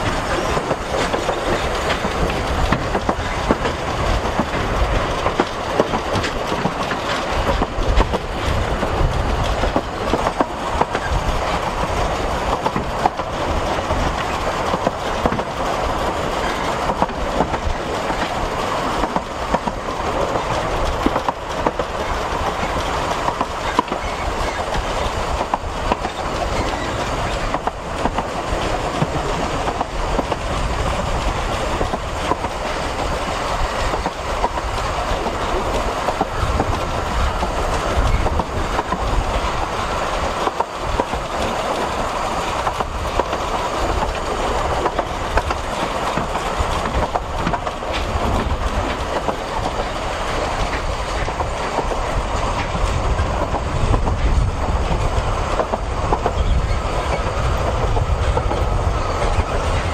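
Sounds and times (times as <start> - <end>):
train carriage rumble and rattle: 0.0 - 59.9
wheels clicking over rail joints: 0.0 - 59.9.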